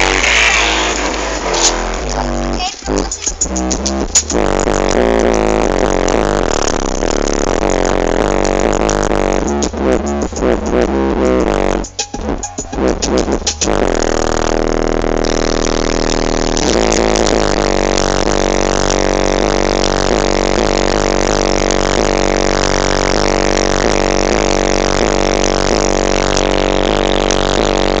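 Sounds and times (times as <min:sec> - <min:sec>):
loud distorted car stereo music: 0:00.0 - 0:28.0.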